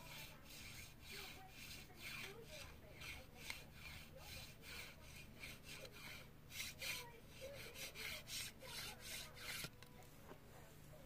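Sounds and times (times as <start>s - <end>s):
scratchy rubbing strokes: 0.0s - 9.8s.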